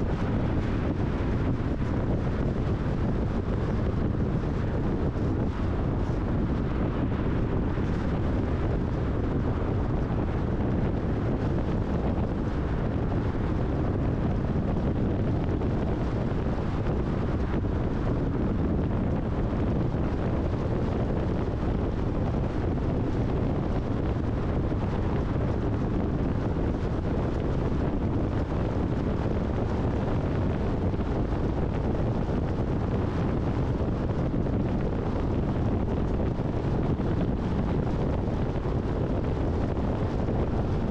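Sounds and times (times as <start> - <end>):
car road noise at highway speed: 0.0 - 40.9
wind buffeting microphone: 0.0 - 40.9.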